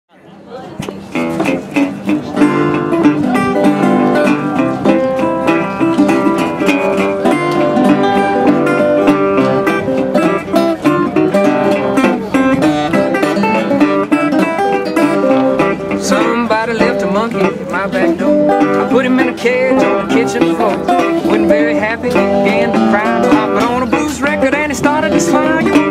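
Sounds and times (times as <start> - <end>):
resonator guitar fingerpicked: 0.4 - 25.9.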